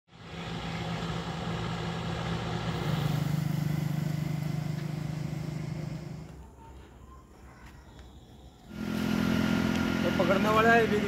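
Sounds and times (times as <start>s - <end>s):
vehicle engine humming: 0.1s - 7.0s, 8.0s - 11.0s.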